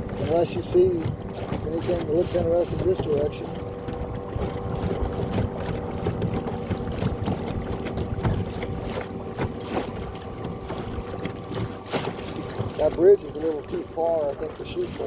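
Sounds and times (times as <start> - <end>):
boat motor whining: 0.0 - 15.0
water slapping against hull: 0.0 - 15.0.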